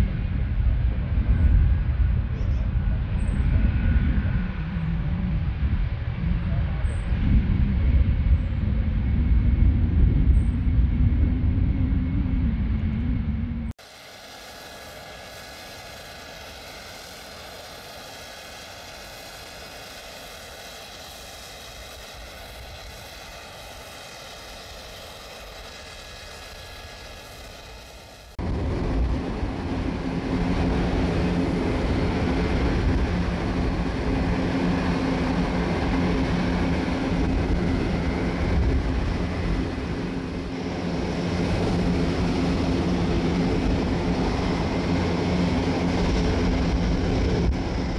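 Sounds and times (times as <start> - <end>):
aircraft high whine: 0.0 - 47.9
turboprop engines droning: 0.0 - 47.9.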